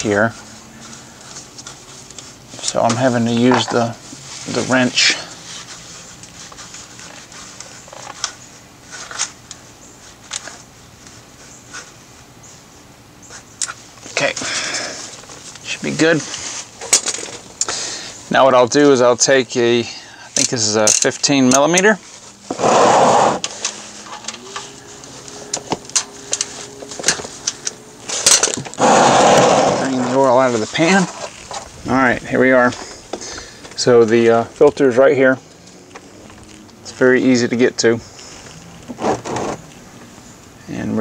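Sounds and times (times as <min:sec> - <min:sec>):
rustling noise: 0:00.1 - 0:14.3, 0:15.0 - 0:17.6, 0:20.4 - 0:40.6.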